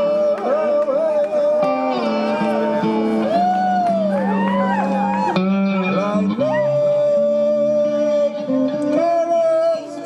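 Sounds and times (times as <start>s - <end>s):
live band with bending guitar: 0.0s - 10.0s.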